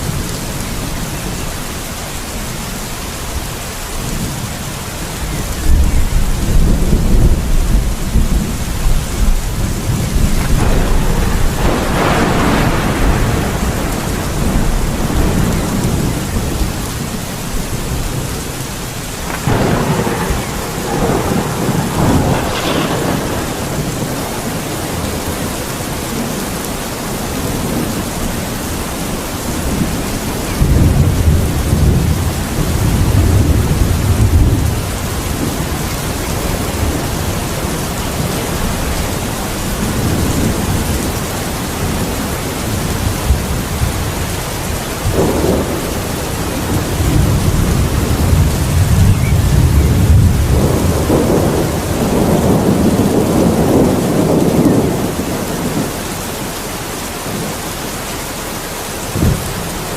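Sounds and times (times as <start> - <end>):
rolling thunder: 0.0 - 56.6, 59.0 - 59.9
steady rain: 0.0 - 59.9.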